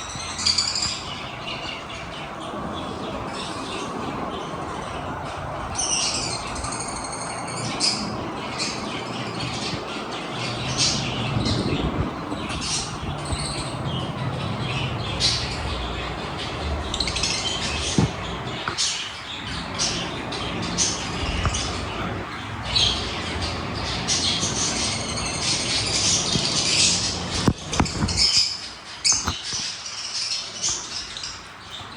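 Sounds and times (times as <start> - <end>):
lovebirds calling: 0.0 - 31.9
steady background noise: 0.0 - 31.9.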